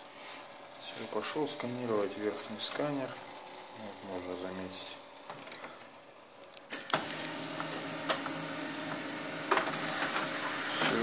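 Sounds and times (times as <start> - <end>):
feeder motor and rollers running: 0.0 - 6.0, 6.8 - 11.0.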